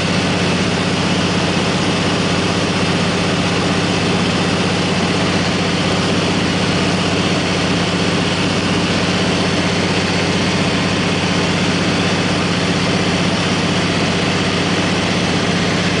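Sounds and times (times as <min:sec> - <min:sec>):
floatplane engine and propeller drone: 0:00.0 - 0:16.0.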